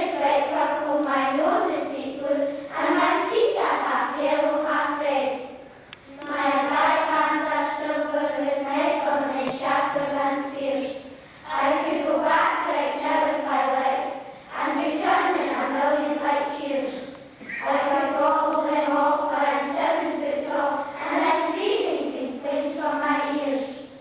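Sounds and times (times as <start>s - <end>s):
girls' choir singing: 0.0s - 23.8s.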